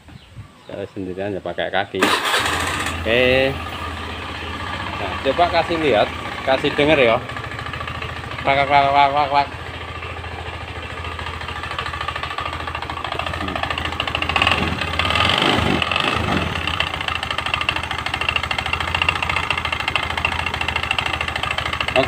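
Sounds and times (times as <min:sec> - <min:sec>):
scooter engine idling with clacking: 0:02.0 - 0:22.0.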